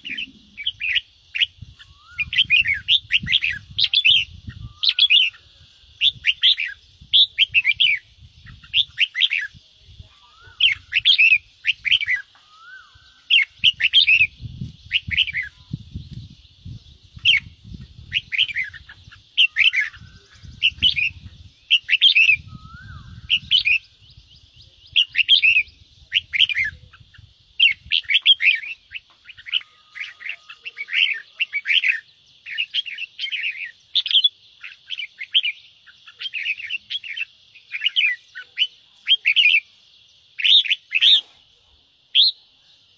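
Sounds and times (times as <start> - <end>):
bird singing chattering phrases: 0.0 - 42.9.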